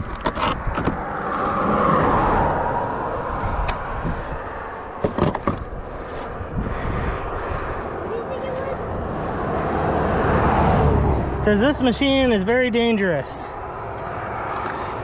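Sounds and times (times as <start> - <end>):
vehicle passing: 1.0 - 15.0.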